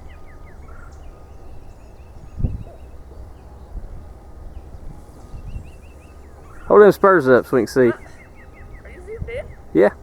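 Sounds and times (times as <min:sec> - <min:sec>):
distant bird chirping: 0:00.0 - 0:10.0
wind rumbling on microphone: 0:00.0 - 0:10.0.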